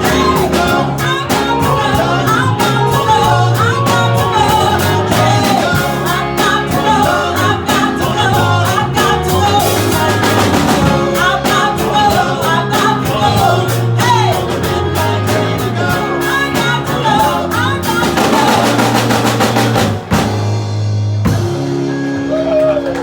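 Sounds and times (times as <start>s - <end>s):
person singing: 0.0s - 19.5s
live band playing: 0.0s - 23.0s.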